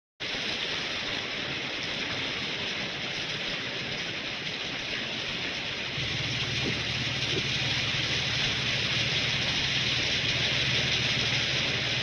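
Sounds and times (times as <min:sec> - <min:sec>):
rain on a wet street: 0:00.2 - 0:12.0.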